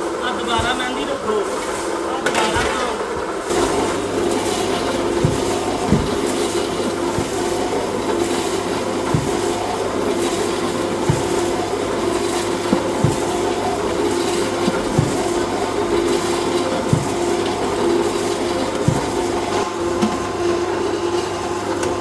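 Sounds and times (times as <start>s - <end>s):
factory machinery humming: 0.0s - 22.0s.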